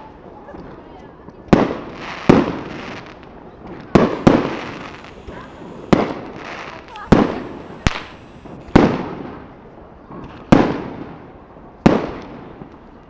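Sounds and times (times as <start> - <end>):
firework bangs with echo: 1.5 - 12.7.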